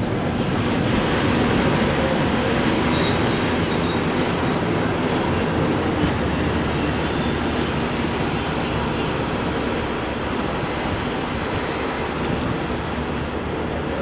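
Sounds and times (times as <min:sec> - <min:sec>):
high wheel squeals: 0:00.0 - 0:14.0
train wheels rumbling on rails: 0:00.0 - 0:14.0.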